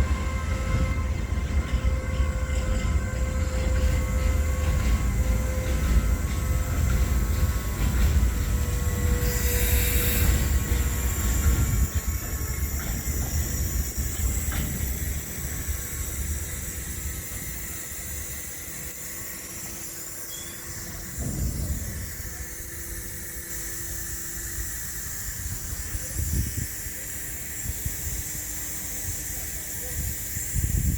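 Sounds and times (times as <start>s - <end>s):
freight train rolling past: 0.0s - 30.9s
thin steady high tones: 0.0s - 30.9s.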